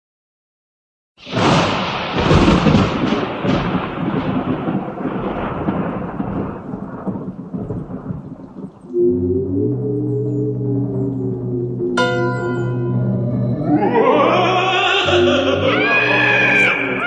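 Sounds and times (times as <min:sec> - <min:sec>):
thunderclap rumbling: 0:01.2 - 0:17.0.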